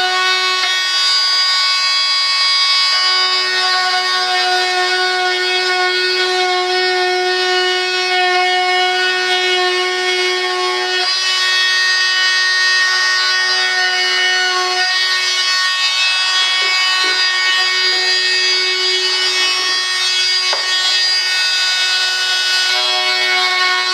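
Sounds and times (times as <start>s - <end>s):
rotary cutting tool whining: 0.0s - 23.9s.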